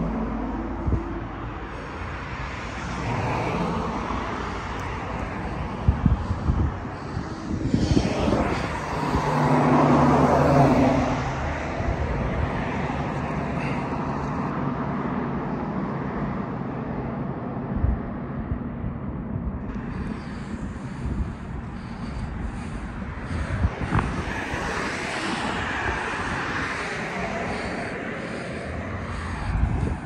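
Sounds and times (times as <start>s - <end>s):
vehicle passing close: 0.0s - 17.1s, 19.6s - 30.0s
distant traffic: 0.0s - 30.0s.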